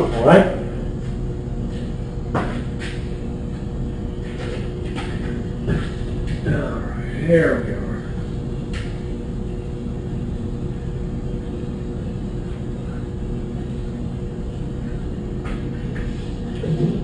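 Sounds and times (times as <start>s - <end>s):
mechanical hum with low rumble: 0.0s - 17.0s.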